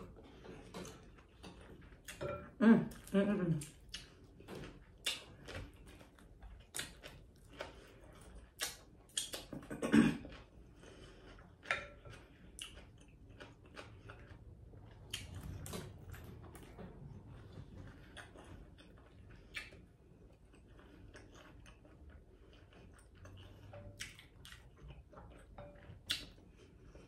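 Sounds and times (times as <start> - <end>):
chewing crunches: 3.6 - 27.0.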